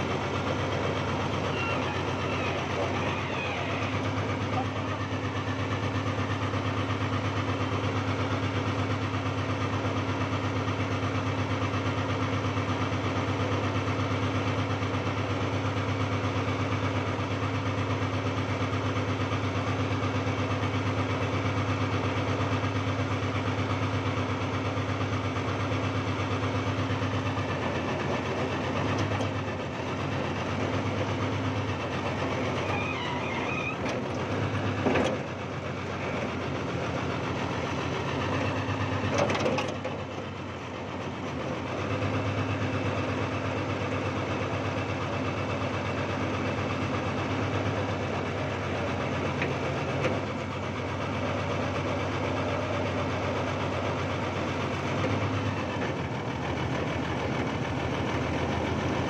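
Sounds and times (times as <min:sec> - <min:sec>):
backhoe engine running: 0:00.0 - 0:59.0.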